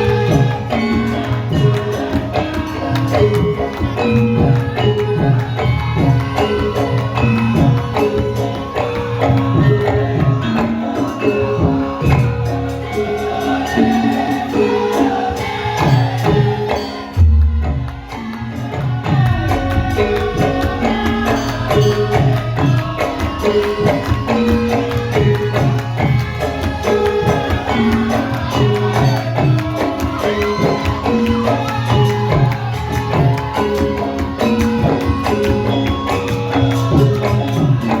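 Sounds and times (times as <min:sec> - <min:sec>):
gamelan music: 0:00.0 - 0:38.0
jingling percussion: 0:00.0 - 0:38.0.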